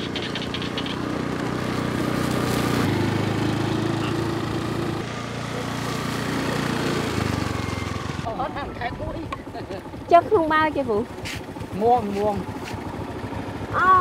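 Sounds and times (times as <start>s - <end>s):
small motorbike engine running: 0.0s - 14.0s.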